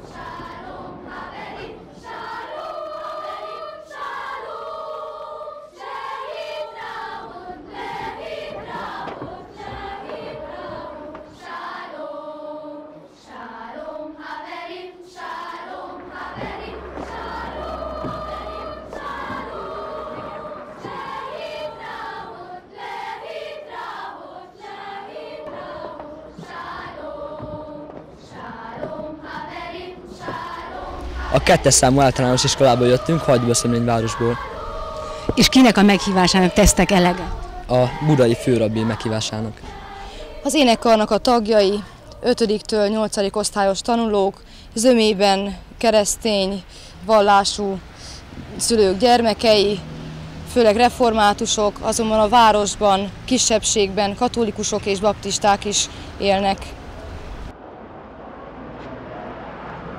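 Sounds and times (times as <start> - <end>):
children's choir singing: 0.0 - 59.6.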